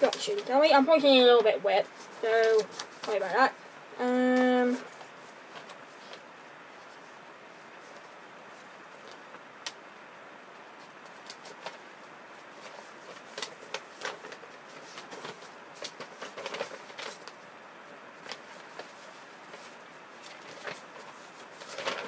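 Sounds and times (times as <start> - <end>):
paper pages rustling: 0.0 - 9.8, 10.5 - 17.5, 18.2 - 22.0
faint steady hiss: 0.0 - 22.0.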